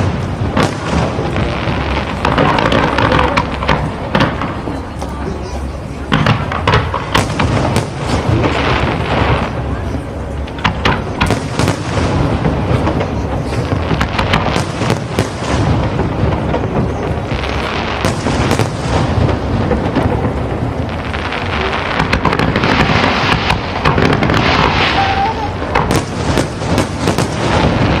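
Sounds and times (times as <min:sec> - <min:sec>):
crackling fireworks: 0:00.0 - 0:28.0
fireworks booms and bangs: 0:00.0 - 0:28.0.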